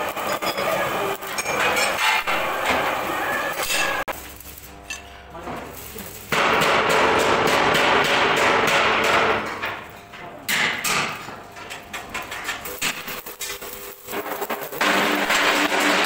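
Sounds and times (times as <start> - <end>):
metal hammering and clanging: 0.0 - 4.2, 4.8 - 5.6, 6.2 - 16.0.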